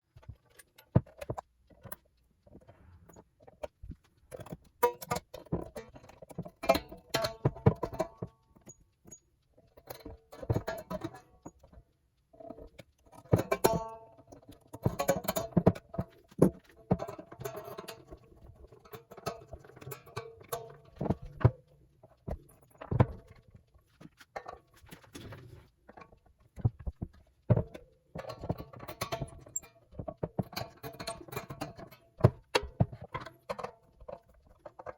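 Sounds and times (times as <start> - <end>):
clicks and taps of parts handled: 0.1 - 34.9.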